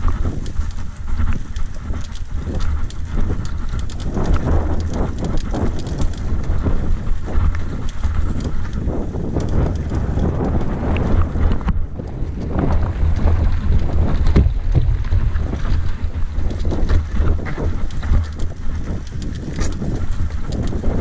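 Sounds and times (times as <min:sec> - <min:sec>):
bike rattling over stones: 0:00.0 - 0:21.0
wind rumble on microphone: 0:00.0 - 0:21.0.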